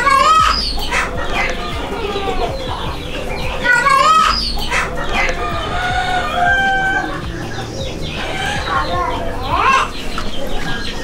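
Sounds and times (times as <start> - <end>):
rooster crowing: 0.0 - 10.0
chickens clucking: 0.0 - 11.0.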